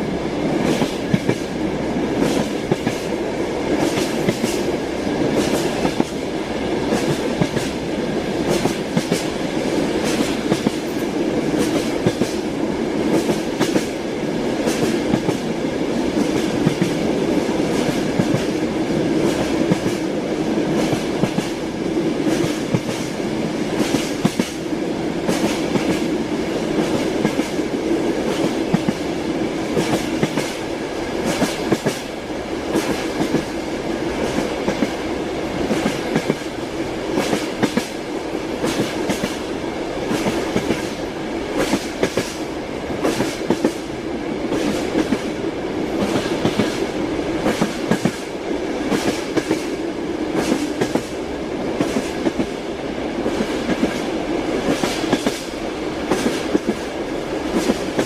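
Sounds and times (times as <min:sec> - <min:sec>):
moving train rumble: 0:00.0 - 0:58.0.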